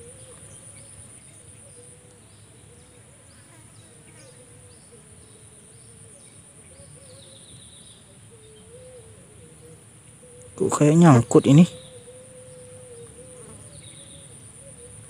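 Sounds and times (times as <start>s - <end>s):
insect chirps: 0.0s - 15.0s
insects buzzing: 0.0s - 15.0s.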